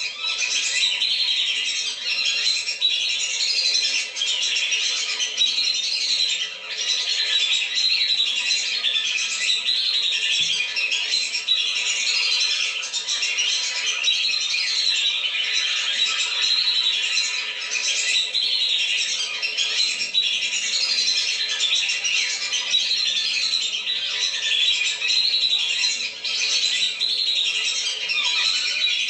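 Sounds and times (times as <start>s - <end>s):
ducks whistling and chattering: 0.0s - 29.0s.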